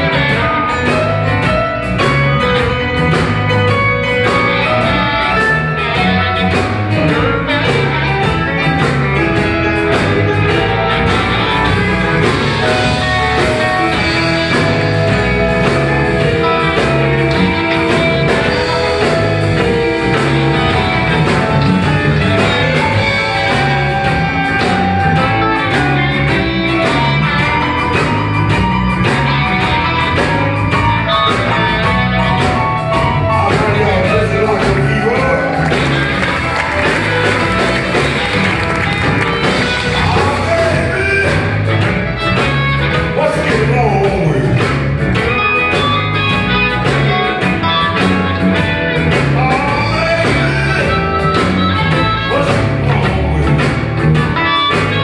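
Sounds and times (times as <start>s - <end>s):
electric blues band playing: 0.0s - 55.0s.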